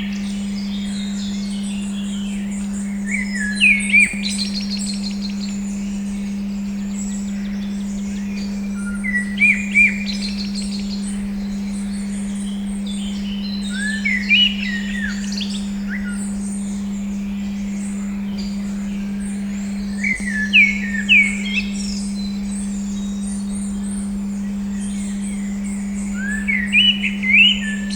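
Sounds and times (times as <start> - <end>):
songbirds singing: 0.0 - 27.9
steady pure tone: 0.0 - 27.9.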